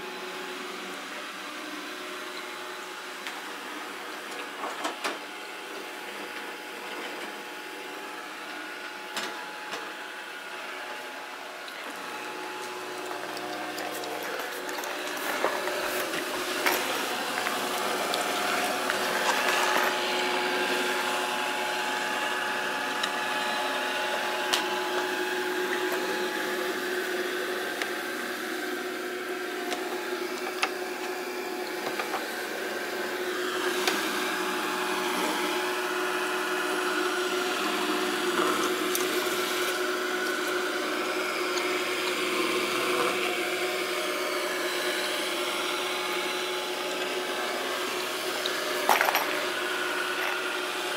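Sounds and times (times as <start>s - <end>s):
robot vacuum cleaner running: 0.0s - 50.9s.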